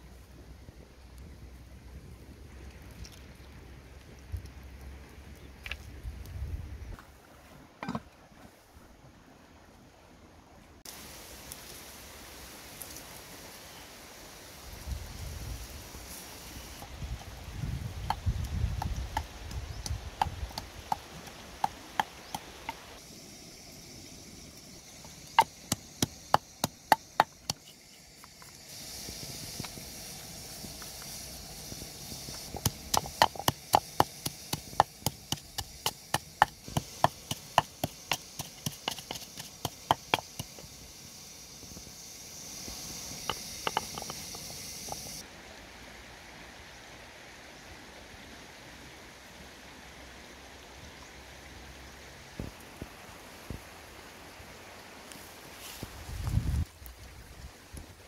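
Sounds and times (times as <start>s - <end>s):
steady hiss: 8.3s - 58.0s.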